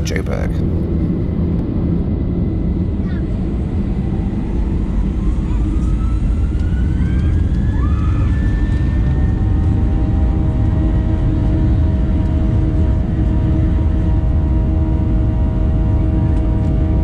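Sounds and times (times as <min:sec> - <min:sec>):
jet engines rumbling in cabin: 0:00.0 - 0:17.0
thin engine whine: 0:00.0 - 0:17.0.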